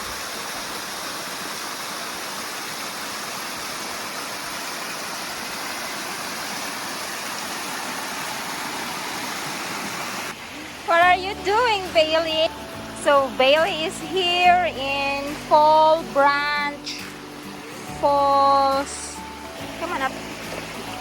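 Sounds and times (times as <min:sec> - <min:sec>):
waterfall rushing over rocks: 0:00.0 - 0:21.0.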